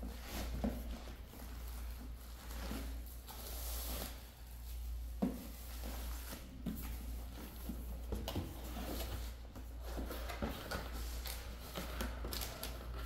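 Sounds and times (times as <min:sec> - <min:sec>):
plastic wrap and cardboard rustling: 0:00.0 - 0:13.0.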